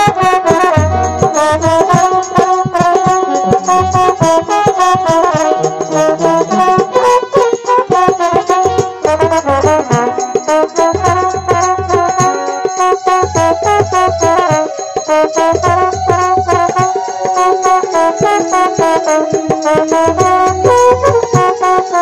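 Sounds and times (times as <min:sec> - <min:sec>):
lively melody over fast beat: 0:00.0 - 0:22.0.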